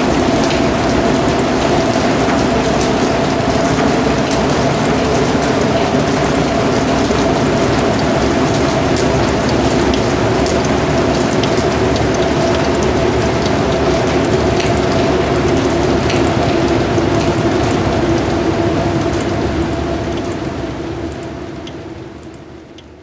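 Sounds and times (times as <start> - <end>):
heavy rain on trees: 0.0 - 23.0.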